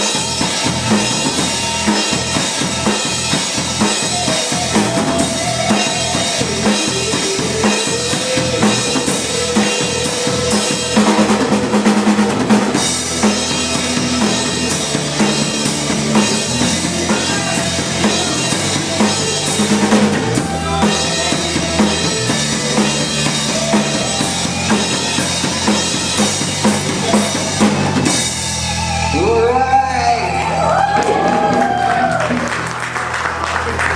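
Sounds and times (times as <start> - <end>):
drum kit beat: 0.0 - 29.6
bass and keyboard lines: 0.0 - 33.9.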